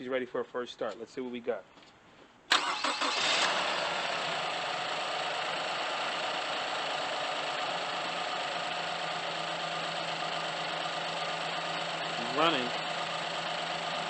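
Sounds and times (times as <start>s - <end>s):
car engine idling: 2.5s - 14.0s.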